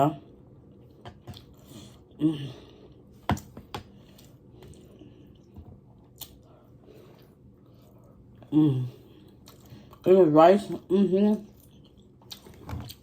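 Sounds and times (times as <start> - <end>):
close eating sounds: 0.0 - 13.0.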